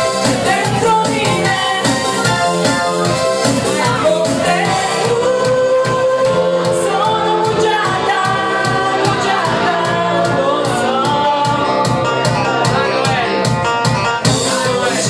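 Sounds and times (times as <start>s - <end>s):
karaoke backing track with drums: 0.0s - 15.0s
women singing into microphones: 0.2s - 12.4s.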